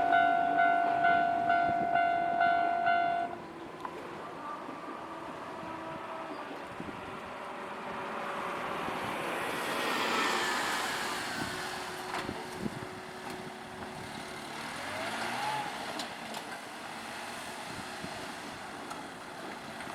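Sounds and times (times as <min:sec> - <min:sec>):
road vehicle passing: 0:00.0 - 0:18.6.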